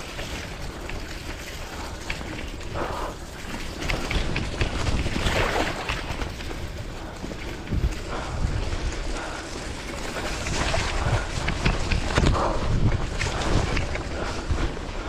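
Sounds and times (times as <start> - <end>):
tyres rolling on wet mud: 0.0 - 14.9
bike clicks and rattles: 0.0 - 15.0
wind buffeting microphone: 0.0 - 15.0.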